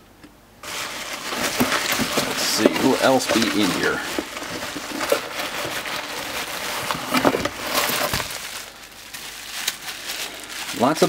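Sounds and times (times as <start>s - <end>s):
cardboard box being opened: 0.6s - 10.2s
packaging rustling and crinkling: 0.6s - 11.0s.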